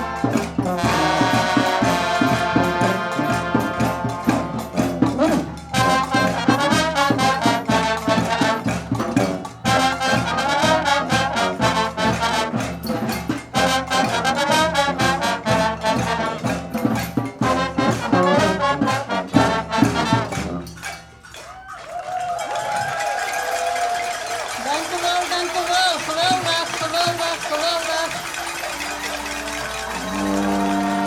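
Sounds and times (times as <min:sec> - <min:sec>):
brass music over a steady beat: 0:00.0 - 0:21.4, 0:24.4 - 0:31.0.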